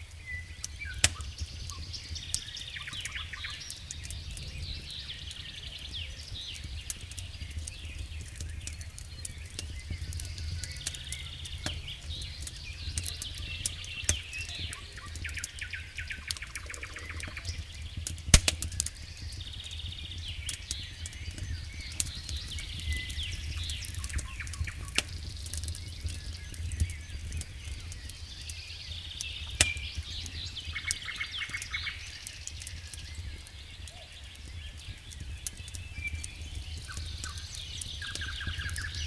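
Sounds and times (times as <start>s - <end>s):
campfire crackling: 0.0s - 39.0s
birds chirping and trilling: 0.2s - 39.0s.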